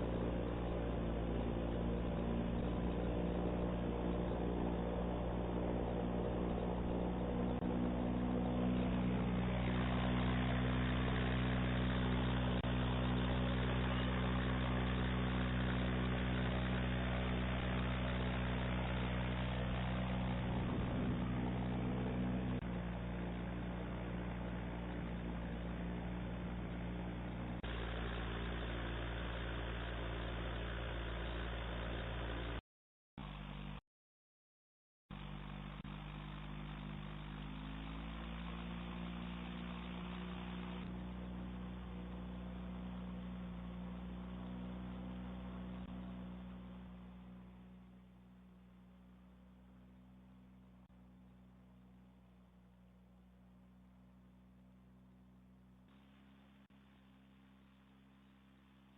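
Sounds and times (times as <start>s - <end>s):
airboat engine and propeller: 0.0s - 32.6s, 35.1s - 58.9s.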